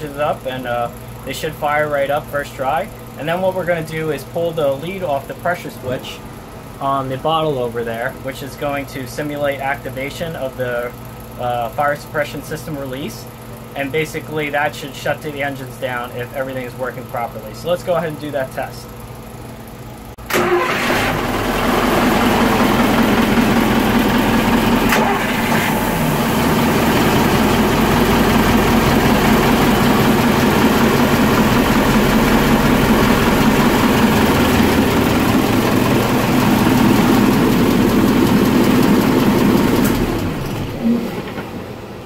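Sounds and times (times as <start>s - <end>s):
diesel engines idling: 0.0s - 40.9s.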